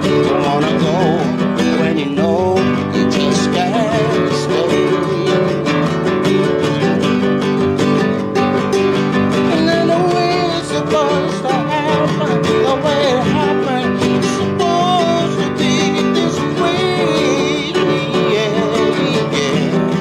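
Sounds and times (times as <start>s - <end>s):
man singing with vibrato: 0.0s - 20.0s
nylon-string guitar strummed: 0.0s - 20.0s.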